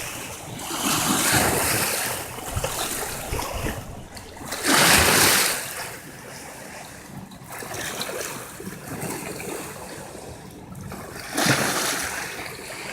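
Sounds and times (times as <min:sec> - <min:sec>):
lake waves lapping over rocks: 0:00.0 - 0:12.9.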